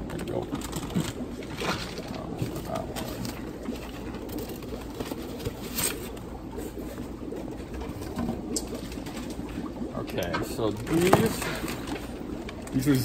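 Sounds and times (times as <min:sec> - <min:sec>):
aquarium equipment hum: 0:00.0 - 0:13.0.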